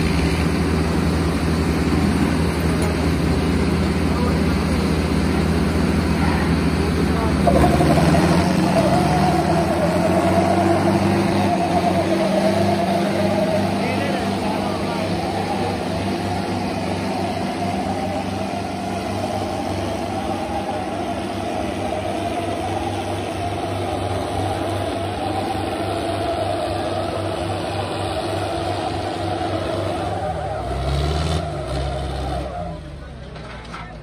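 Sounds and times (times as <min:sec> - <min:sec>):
tractor engines droning: 0:00.0 - 0:34.0.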